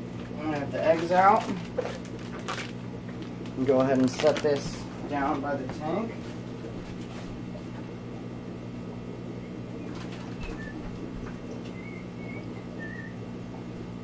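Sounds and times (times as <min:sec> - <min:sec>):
aquarium pumps humming: 0:00.0 - 0:14.0.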